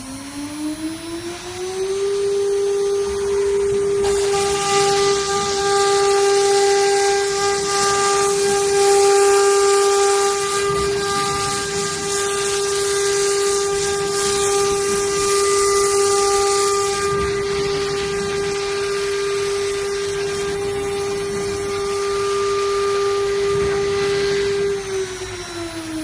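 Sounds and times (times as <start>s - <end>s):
router spindle whine: 0.0s - 26.0s
hiss: 3.1s - 25.5s.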